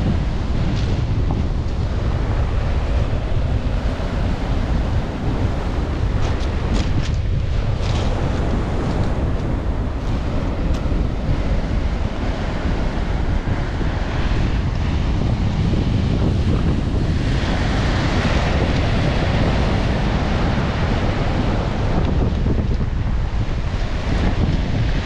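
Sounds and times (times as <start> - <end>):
surf washing over pebbles: 0.0 - 25.0
wind rumble on microphone: 0.0 - 25.0.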